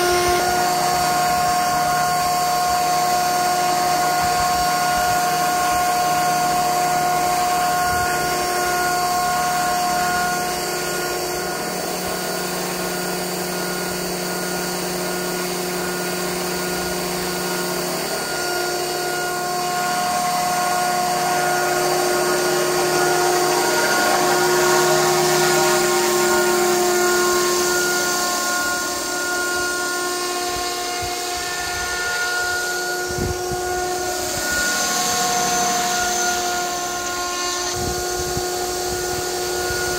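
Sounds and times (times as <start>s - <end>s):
helicopter rotor noise: 0.0s - 39.9s
rc helicopter motor whine: 0.0s - 39.9s.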